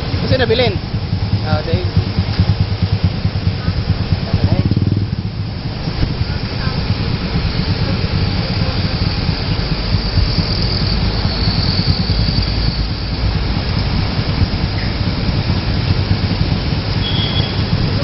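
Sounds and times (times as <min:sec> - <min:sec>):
motorcycles idling and moving off: 0:00.0 - 0:18.0.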